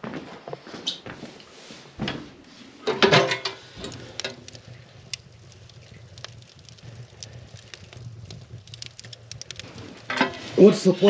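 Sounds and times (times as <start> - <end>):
wood fire crackling: 0.4 - 11.0.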